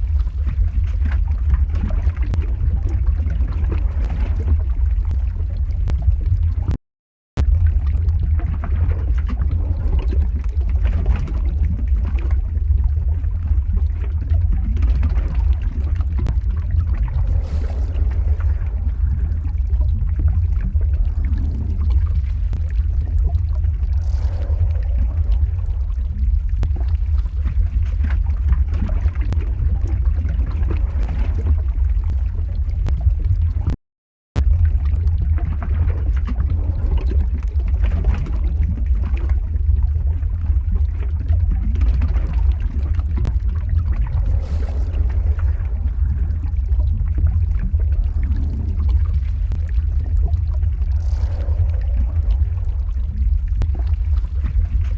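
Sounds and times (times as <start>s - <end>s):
deep rumble of lava flow: 0.0s - 54.9s.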